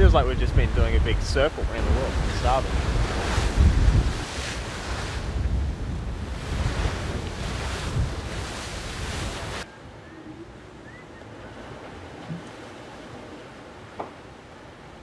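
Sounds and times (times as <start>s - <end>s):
wind buffeting microphone: 0.0s - 13.3s
sea rushing: 0.0s - 15.0s.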